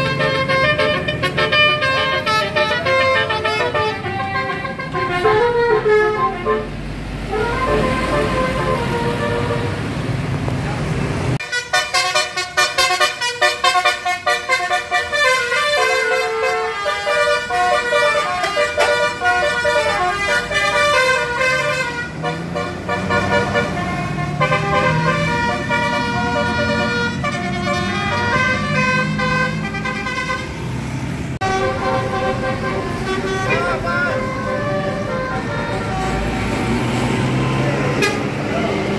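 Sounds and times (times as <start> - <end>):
bus air horns playing melody: 0.0 - 10.0, 11.4 - 30.7, 31.4 - 38.4.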